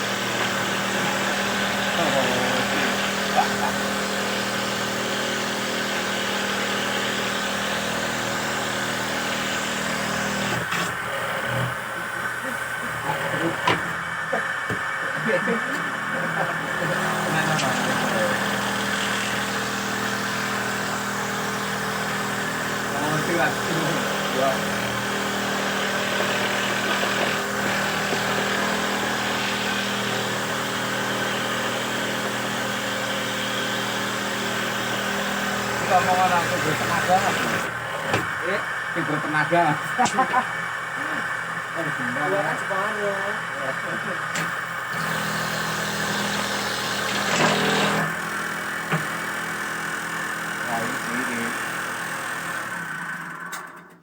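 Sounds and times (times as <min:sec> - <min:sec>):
machine motor humming: 0:00.0 - 0:54.0.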